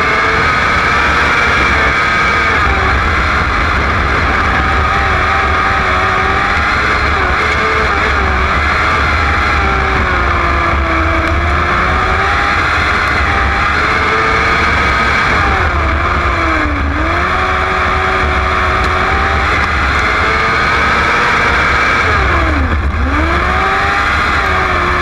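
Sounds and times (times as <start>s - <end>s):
racing engine revving: 0.0s - 25.0s.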